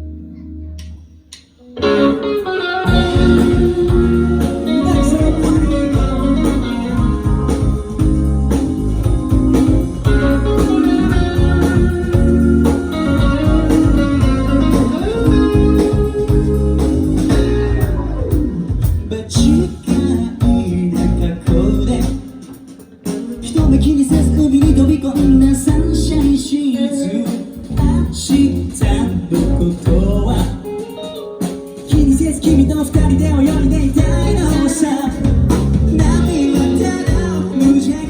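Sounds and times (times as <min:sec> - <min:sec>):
rock band instrumental: 0:00.8 - 0:38.0.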